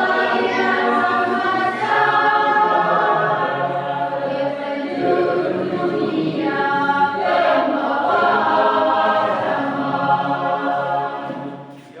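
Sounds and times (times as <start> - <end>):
choir singing sustained notes: 0.0 - 12.0.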